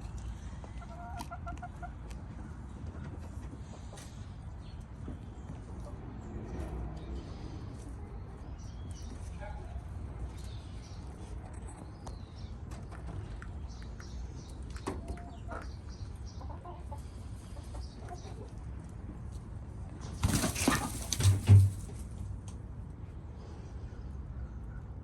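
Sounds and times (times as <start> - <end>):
chickens clucking: 0.0 - 9.3, 10.3 - 22.0.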